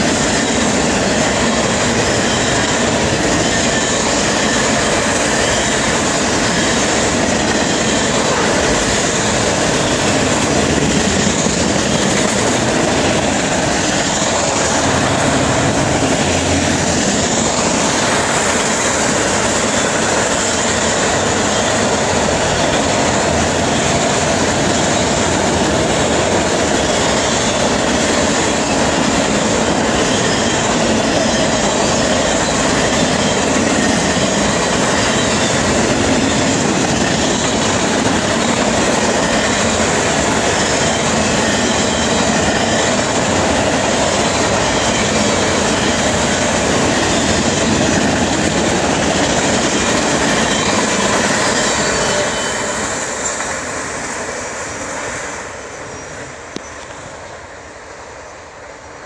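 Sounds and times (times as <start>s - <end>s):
steel wheels on rails: 0.0s - 59.0s.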